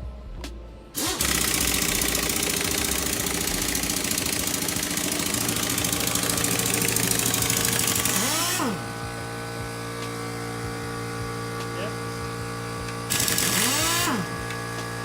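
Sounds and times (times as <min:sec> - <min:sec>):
loud machine running: 0:01.0 - 0:15.0.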